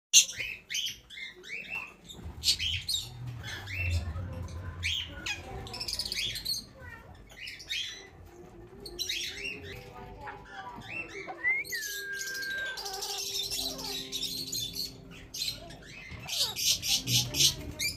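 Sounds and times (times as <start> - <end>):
parakeets calling: 0.2 - 17.9.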